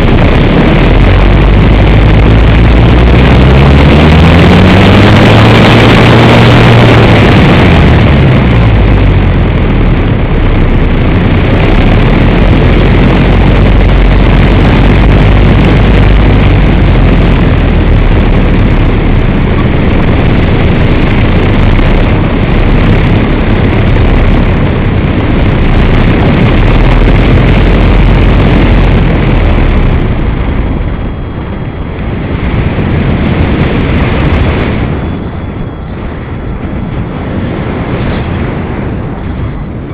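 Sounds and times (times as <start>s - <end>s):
low hum: 0.0s - 39.9s
wind rushing over camera: 0.0s - 39.9s.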